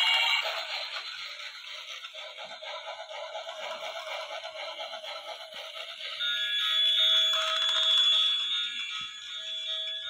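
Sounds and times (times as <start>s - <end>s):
tinny electronic christmas music: 0.0s - 10.0s.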